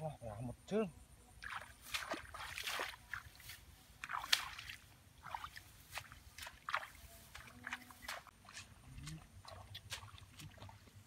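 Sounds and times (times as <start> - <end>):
wading in muddy water: 1.3 - 11.0.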